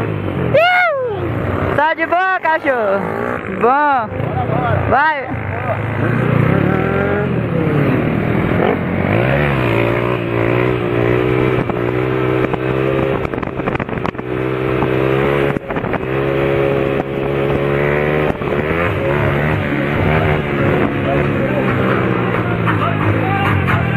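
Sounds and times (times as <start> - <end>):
vehicle engine running: 1.8 - 23.9.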